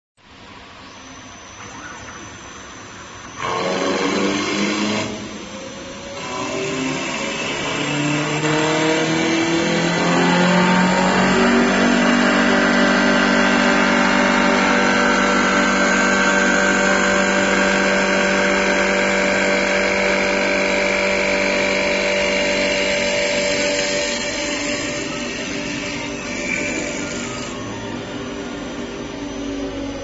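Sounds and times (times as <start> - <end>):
lathe motor whine: 0.3 - 30.0
cutter hissing through wood: 1.0 - 30.0.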